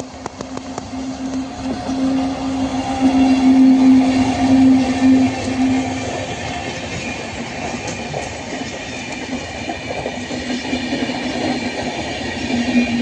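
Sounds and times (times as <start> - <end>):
train rumbling over track: 0.0 - 13.0.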